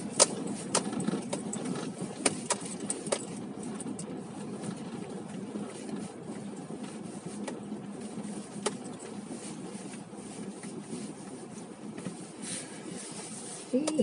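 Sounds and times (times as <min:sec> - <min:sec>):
car engine rumble inside cabin: 0:00.0 - 0:14.0.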